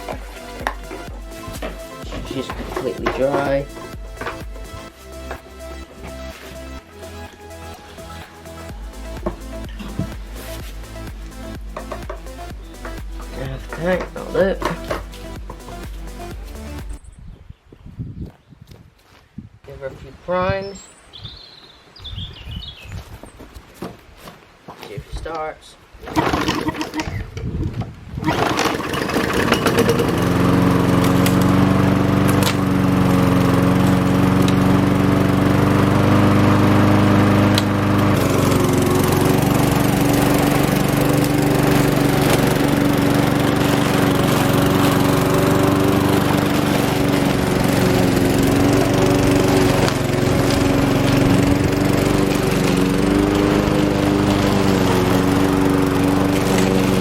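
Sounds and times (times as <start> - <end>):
lawn mower engine starting and running: 0.0 - 17.0, 26.0 - 27.3, 28.2 - 57.0.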